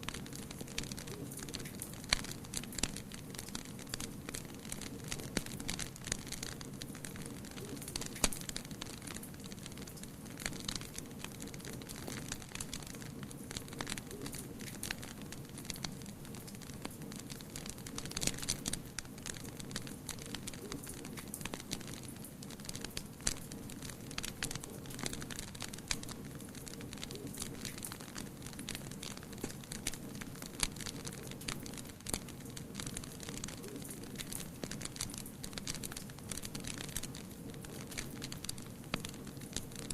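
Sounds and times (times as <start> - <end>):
fire pops and snaps: 0.0 - 39.9
wood fire crackling: 0.0 - 39.9.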